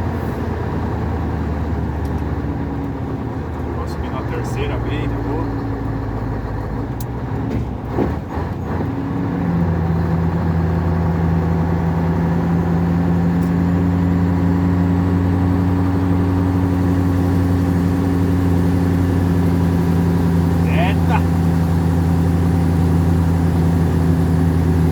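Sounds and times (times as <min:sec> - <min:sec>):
diesel truck engine droning: 0:00.0 - 0:24.9.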